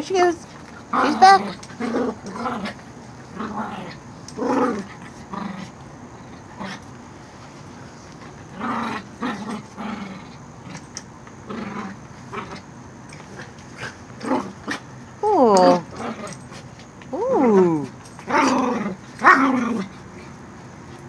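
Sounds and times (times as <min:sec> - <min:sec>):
dogs growling in play: 0:00.5 - 0:20.6.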